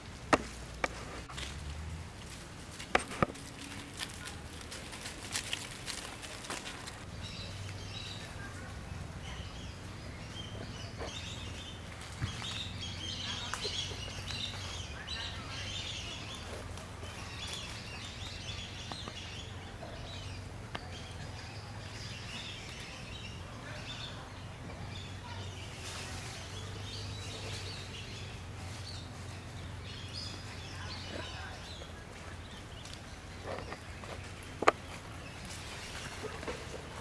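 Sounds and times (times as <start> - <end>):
birds chirping: 2.9 - 37.0.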